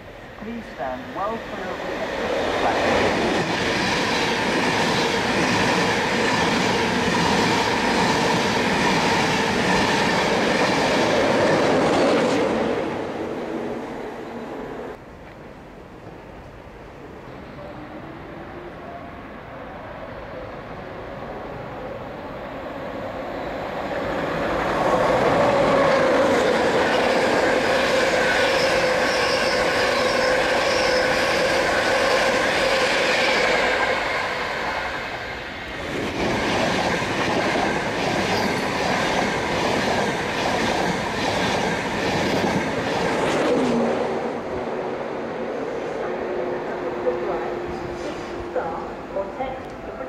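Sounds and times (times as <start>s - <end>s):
train wheels rushing on rail: 0.0s - 49.8s.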